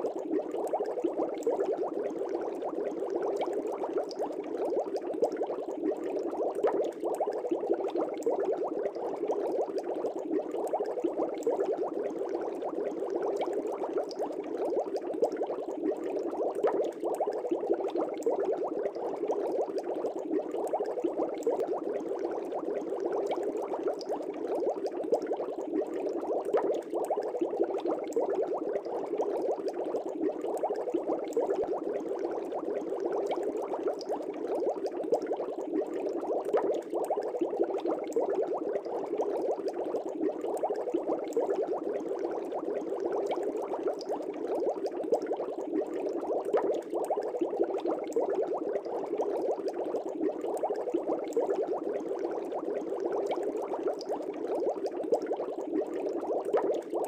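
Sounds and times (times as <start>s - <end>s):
aquarium bubbling with pops: 0.0s - 57.0s.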